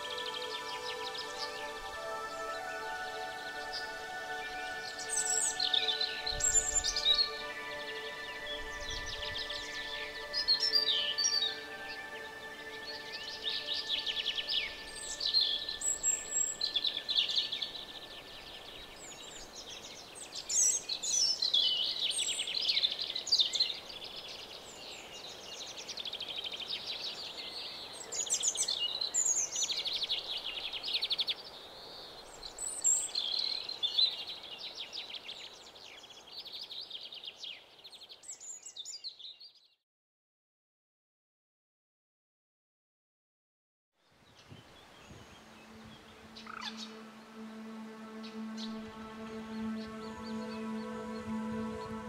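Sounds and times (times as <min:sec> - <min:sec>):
birds chirping and trilling: 0:00.0 - 0:39.7, 0:44.2 - 0:52.0.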